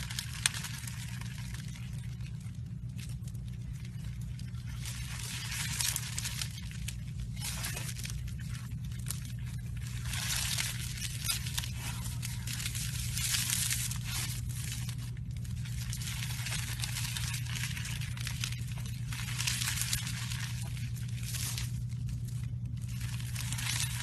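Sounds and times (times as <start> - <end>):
slime crackling and popping: 0.0 - 24.0
steady low hum: 0.0 - 24.0.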